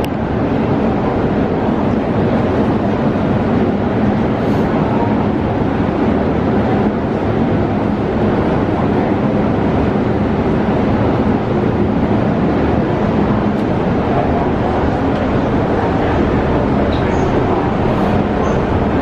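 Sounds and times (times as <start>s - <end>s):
metro train rumbling: 0.0s - 19.0s.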